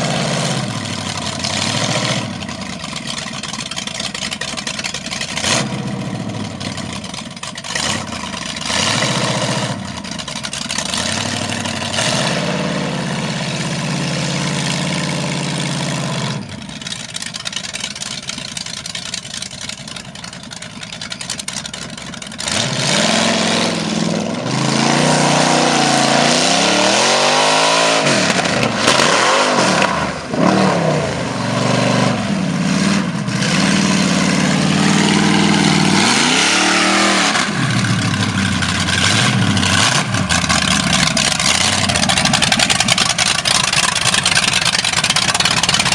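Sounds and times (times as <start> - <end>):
engine running and revving: 0.0 - 17.3, 21.4 - 45.9.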